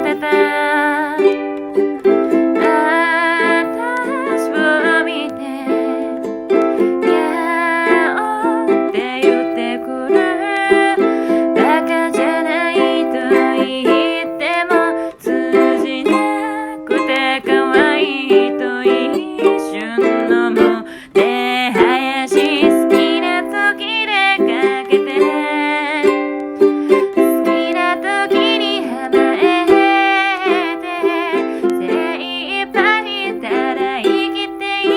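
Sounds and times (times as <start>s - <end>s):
ukulele playing: 0.0s - 34.9s.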